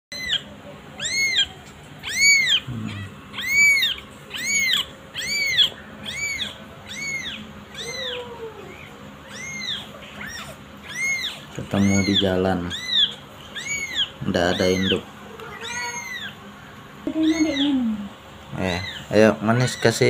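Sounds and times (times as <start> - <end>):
kitten mewing: 0.2 - 16.4, 17.1 - 19.1.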